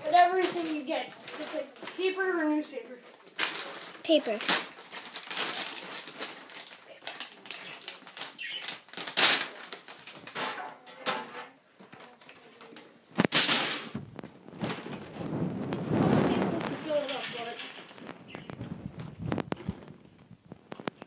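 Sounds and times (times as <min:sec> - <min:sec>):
newspaper rustling and crinkling: 0:00.0 - 0:10.4, 0:13.2 - 0:21.0.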